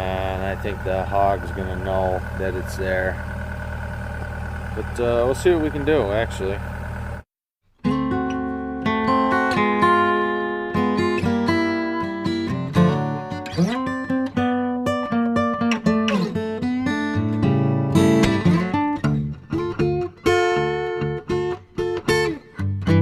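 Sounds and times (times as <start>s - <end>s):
acoustic guitar music: 0.0s - 3.9s, 7.8s - 23.0s.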